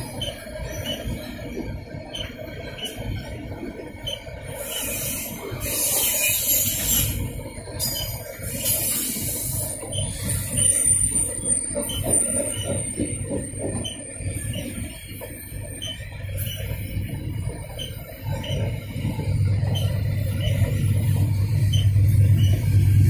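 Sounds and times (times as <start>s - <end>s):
train wheels rumbling on rails: 0.0s - 23.0s
high wheel squeal: 0.1s - 1.3s, 4.0s - 15.1s, 15.7s - 16.9s, 17.7s - 23.0s.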